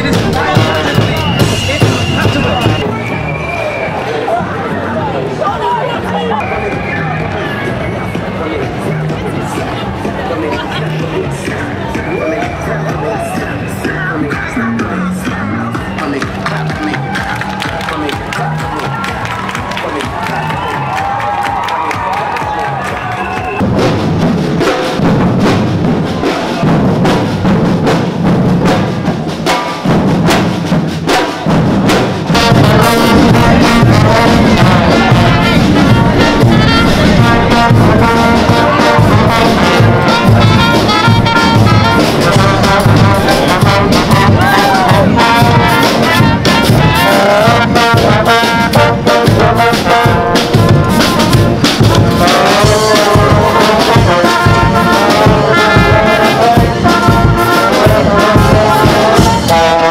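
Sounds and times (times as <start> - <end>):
drums pounding: 0.0 - 59.9
marching brass band: 0.0 - 59.9.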